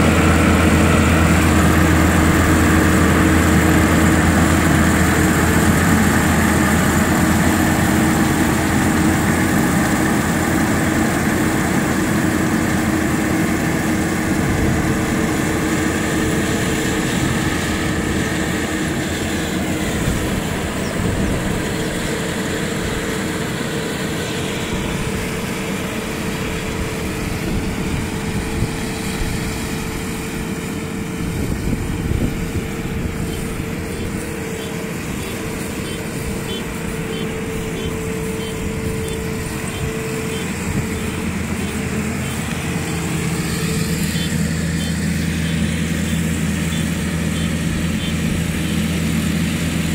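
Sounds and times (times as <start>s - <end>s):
combine harvester engine humming: 0.0s - 49.9s.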